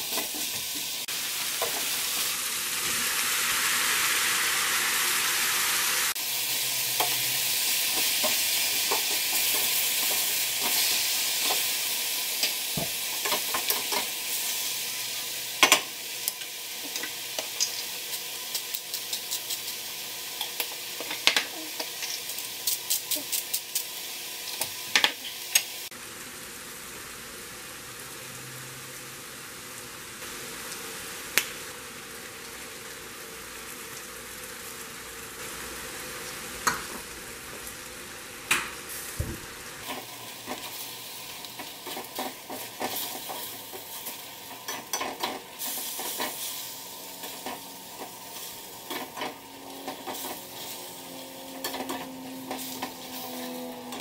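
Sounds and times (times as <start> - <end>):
vegetables sizzling in skillet: 0.0 - 54.0.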